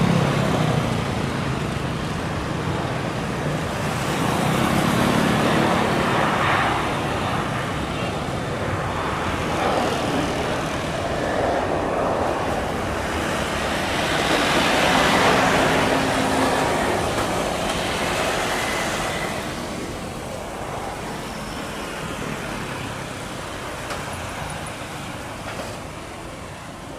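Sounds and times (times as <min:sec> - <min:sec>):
jet engines rushing at takeoff: 0:00.0 - 0:26.9.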